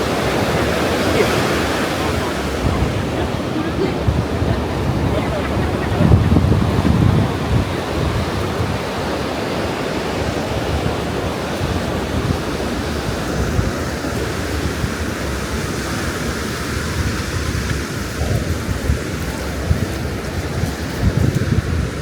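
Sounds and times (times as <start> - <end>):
ocean surf breaking: 0.0 - 22.0
wind buffeting microphone: 0.0 - 22.0.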